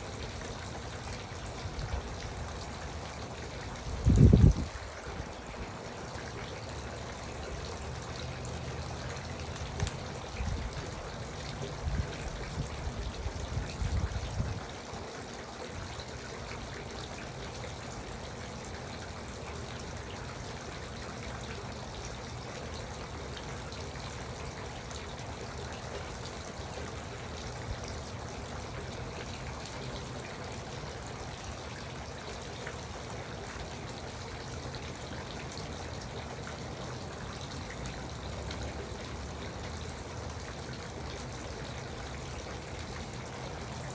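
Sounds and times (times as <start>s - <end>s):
fountain water trickling: 0.0s - 43.9s.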